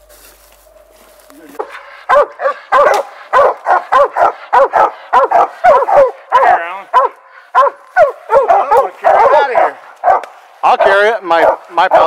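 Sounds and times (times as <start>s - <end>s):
dogs barking: 1.6s - 12.0s.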